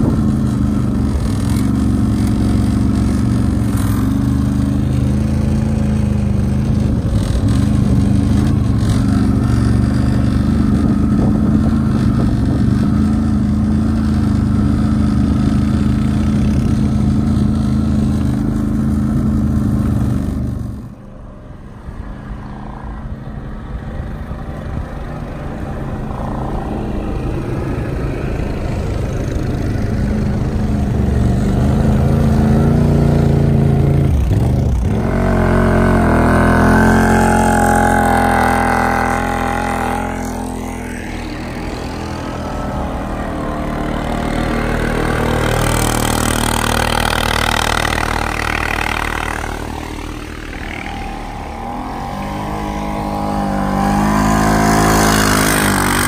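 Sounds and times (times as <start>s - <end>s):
atv engine running under load: 0.0s - 21.1s, 23.4s - 56.0s
quieter engine: 0.0s - 56.0s.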